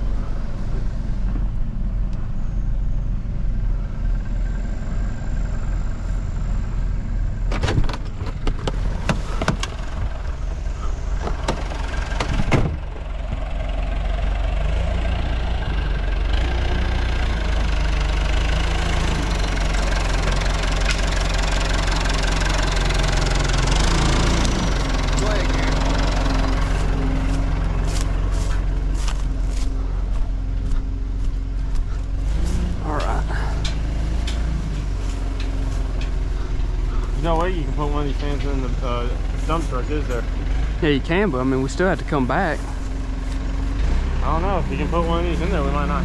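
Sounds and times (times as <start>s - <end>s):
backhoe engine running: 0.0s - 46.0s.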